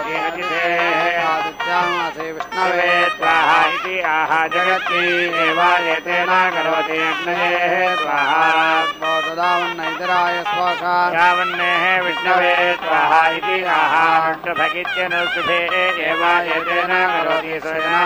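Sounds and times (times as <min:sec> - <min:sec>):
ornamented melody line: 0:00.0 - 0:18.0.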